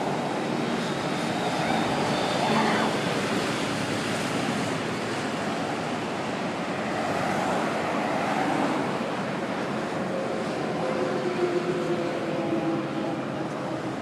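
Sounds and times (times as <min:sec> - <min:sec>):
freeway traffic tyre noise: 0:00.0 - 0:14.0.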